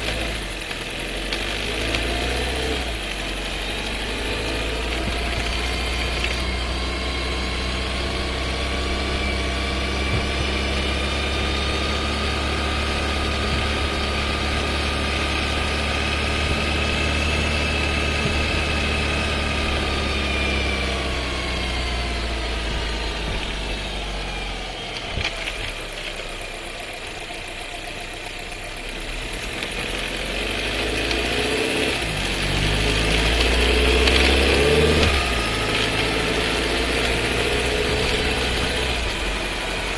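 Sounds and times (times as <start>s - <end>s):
car engine from inside the cabin: 0.0s - 39.9s
loud gearbox downshift: 0.0s - 39.9s.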